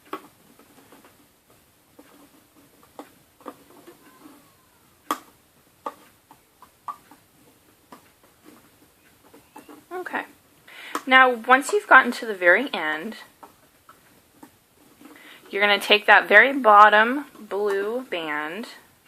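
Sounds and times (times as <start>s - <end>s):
loom hook clicking on plastic pins: 0.0s - 18.9s.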